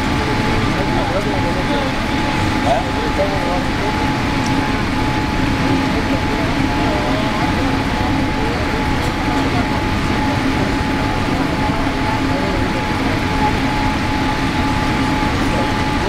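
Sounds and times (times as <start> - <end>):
engines and rushing air roar: 0.0 - 16.0
thin steady whine: 0.0 - 16.0.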